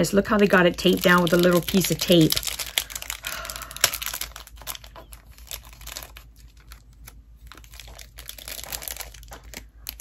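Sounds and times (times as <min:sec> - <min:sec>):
paper wrapping crinkling: 0:00.2 - 0:10.0.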